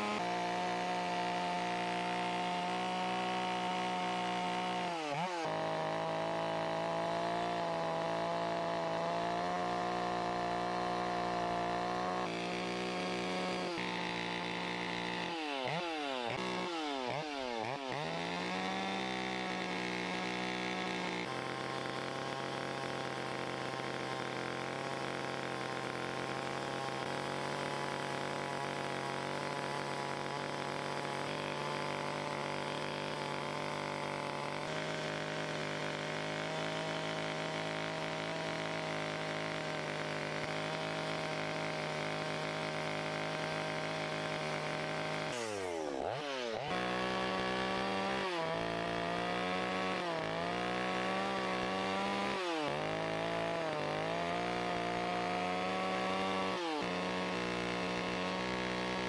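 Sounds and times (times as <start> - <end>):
chainsaw carving wood: 0.0 - 59.0.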